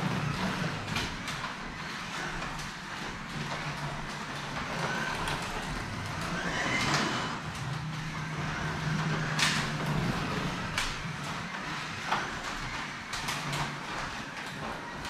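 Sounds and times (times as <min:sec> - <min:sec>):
slot car motor whining: 0:00.0 - 0:13.8.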